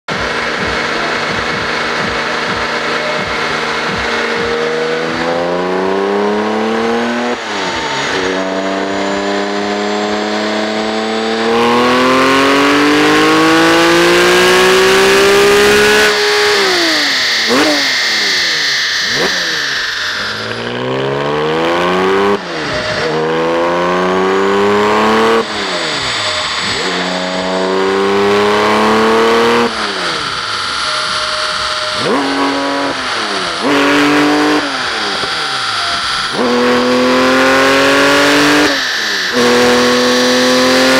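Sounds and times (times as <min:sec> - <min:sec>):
sports car engine revving: 0:00.0 - 0:40.9.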